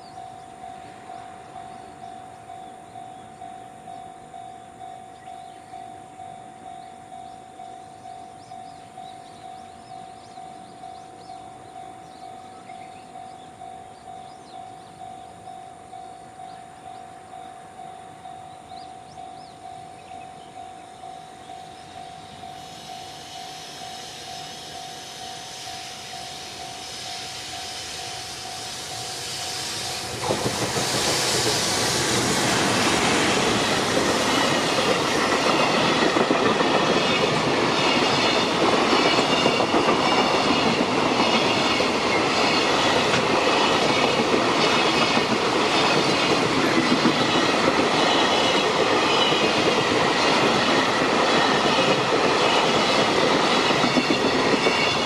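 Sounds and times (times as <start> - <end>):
level-crossing warning bell: 0.0 - 30.2, 32.7 - 55.0
freight train rumble and rail hiss: 0.0 - 55.0.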